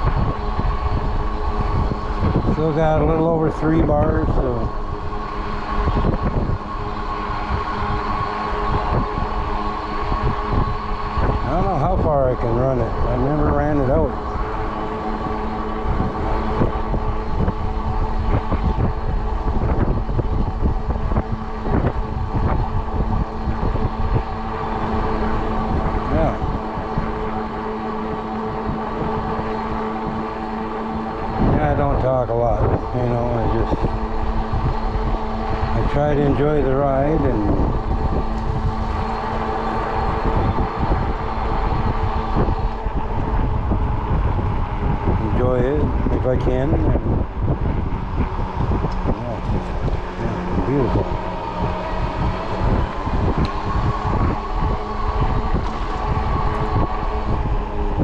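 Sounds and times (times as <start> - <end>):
electric motor whining: 0.0 - 58.0
wind buffeting microphone: 0.0 - 58.0.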